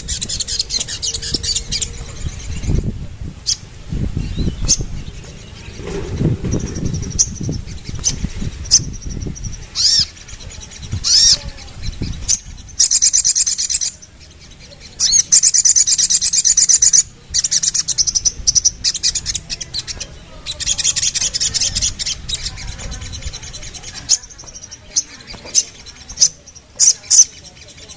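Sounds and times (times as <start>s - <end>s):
bird singing high trills: 0.0s - 27.9s.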